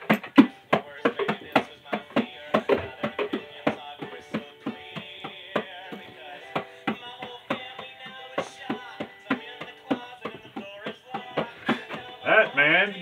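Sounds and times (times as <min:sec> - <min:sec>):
bongos played with hands: 0:00.0 - 0:13.0.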